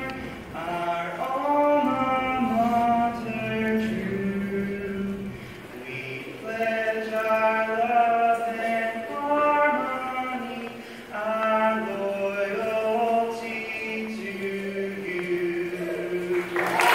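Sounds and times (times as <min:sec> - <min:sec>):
man singing long notes: 0:00.0 - 0:16.9.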